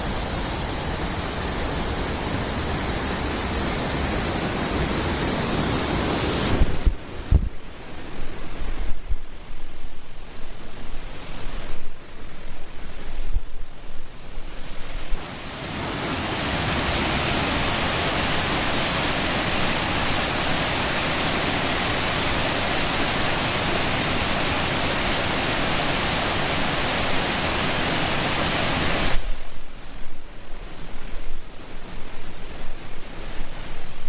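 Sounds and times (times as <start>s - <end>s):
rushing water hiss: 0.0s - 34.0s.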